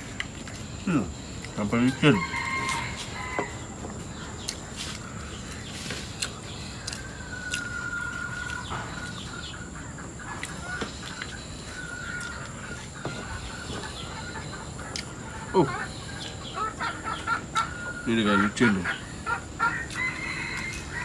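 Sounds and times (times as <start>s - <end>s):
chickens calling: 0.0s - 21.0s.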